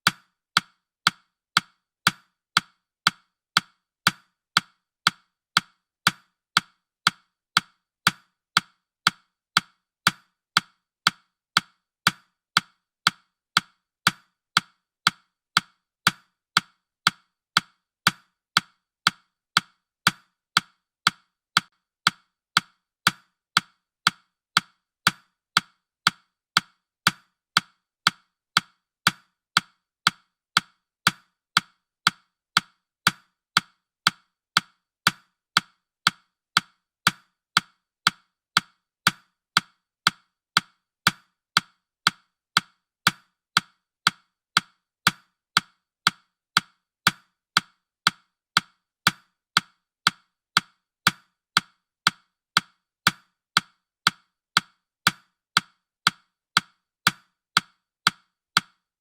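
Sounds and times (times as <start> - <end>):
timer ticking: 0.0 - 58.9.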